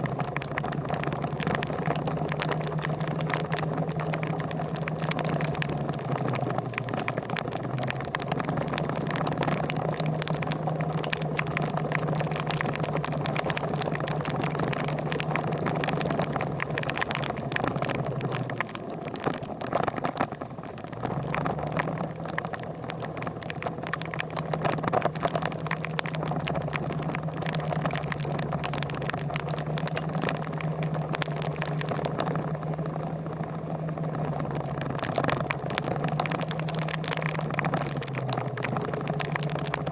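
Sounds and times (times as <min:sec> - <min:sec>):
rattling crackle: 0:00.0 - 0:39.9.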